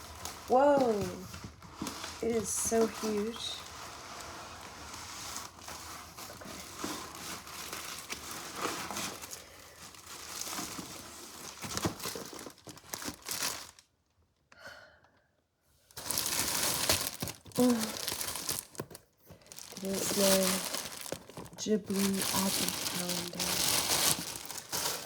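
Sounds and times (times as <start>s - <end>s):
packaging crinkling and tearing: 0.0s - 13.9s, 16.0s - 25.0s.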